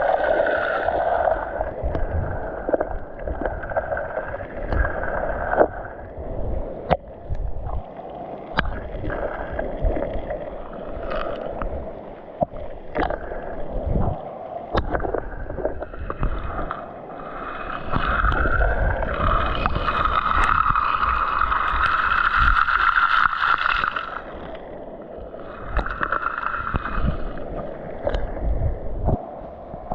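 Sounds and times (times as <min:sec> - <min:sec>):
sea water sloshing: 0:00.0 - 0:29.9.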